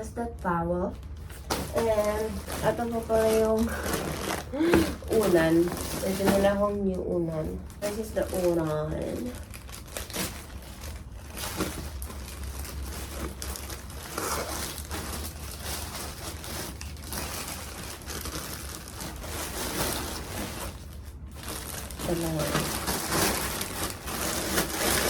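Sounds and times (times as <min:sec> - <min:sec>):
plastic packaging crinkling: 0:00.9 - 0:25.0.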